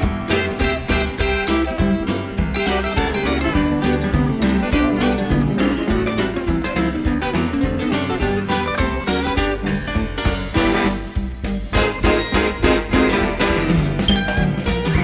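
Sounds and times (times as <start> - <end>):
electric guitar picking: 0.0 - 15.0
swing band playing live: 0.0 - 15.0.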